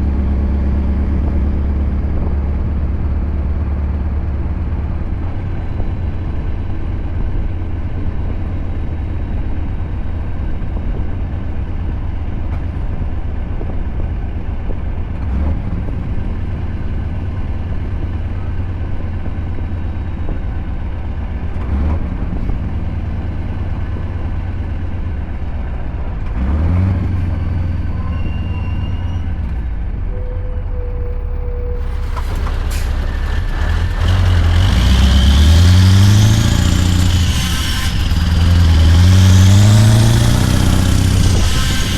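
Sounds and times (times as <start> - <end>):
truck engine droning: 0.0 - 41.9.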